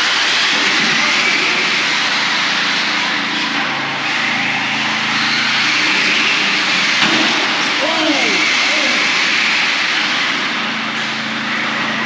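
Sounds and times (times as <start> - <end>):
rc car electric motors whining: 0.0 - 12.0.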